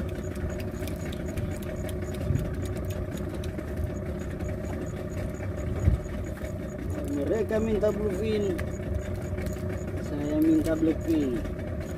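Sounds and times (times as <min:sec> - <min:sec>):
boat engine running at low revs: 0:00.0 - 0:11.9
light regular ticking: 0:00.0 - 0:11.9.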